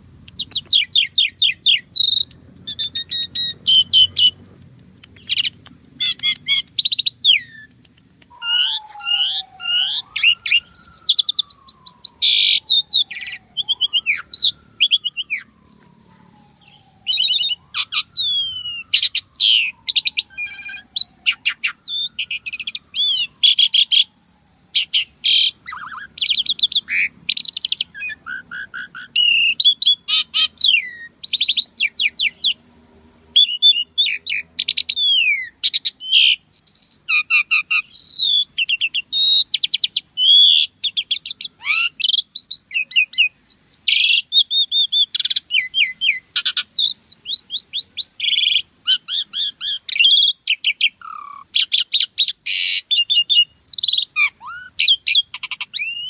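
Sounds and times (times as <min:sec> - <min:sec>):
starling singing: 0:00.0 - 0:56.0.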